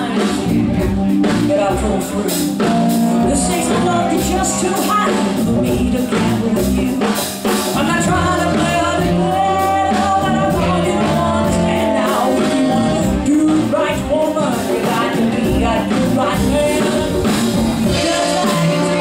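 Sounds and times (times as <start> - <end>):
live band playing: 0.0 - 19.0
woman singing: 3.2 - 19.0.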